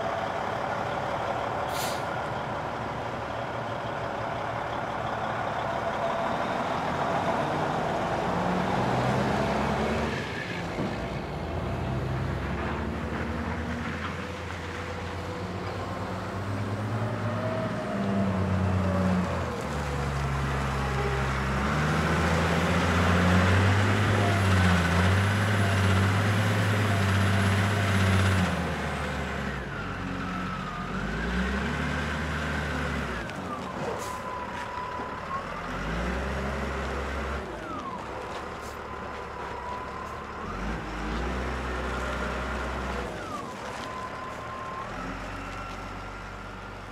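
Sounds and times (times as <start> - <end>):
diesel machinery and trucks: 0.0 - 46.9.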